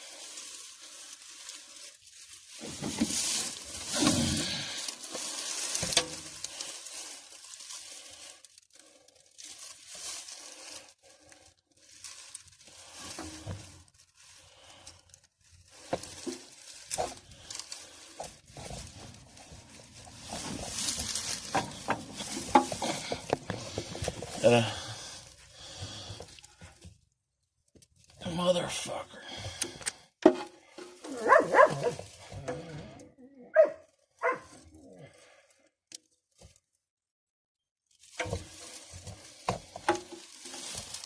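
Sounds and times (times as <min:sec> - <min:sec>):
rustling: 0:00.0 - 0:27.2, 0:27.8 - 0:35.5, 0:37.8 - 0:41.0.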